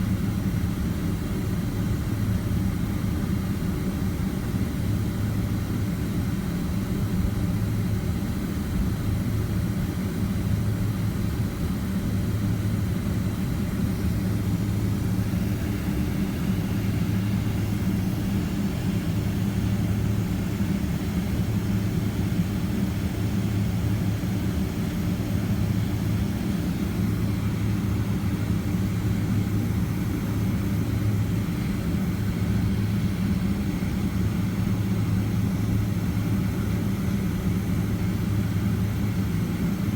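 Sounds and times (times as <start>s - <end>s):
jet engines humming in cabin: 0.0s - 39.9s.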